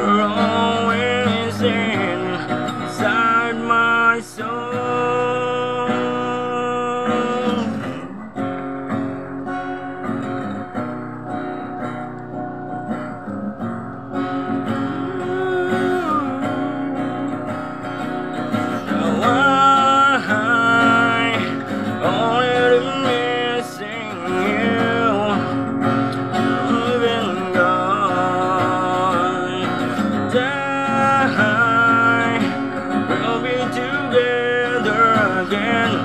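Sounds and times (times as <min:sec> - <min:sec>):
man singing: 0:00.0 - 0:08.5, 0:14.6 - 0:36.0
acoustic guitar strumming: 0:00.0 - 0:36.0.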